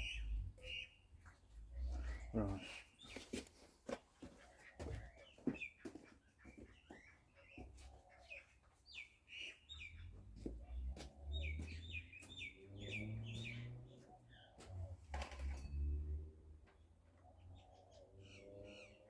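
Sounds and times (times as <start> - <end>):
bird chirping: 0.0 - 3.4, 4.3 - 16.0, 17.0 - 19.0.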